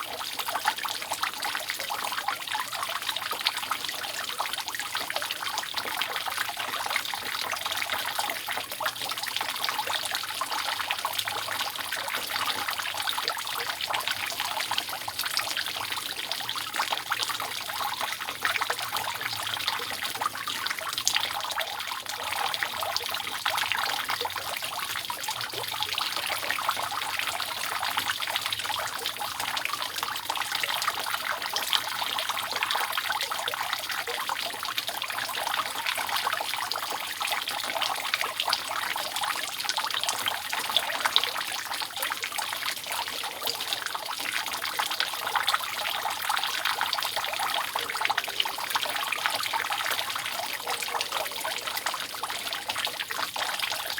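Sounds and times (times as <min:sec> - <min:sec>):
water dripping off a roof: 0:00.0 - 0:53.9.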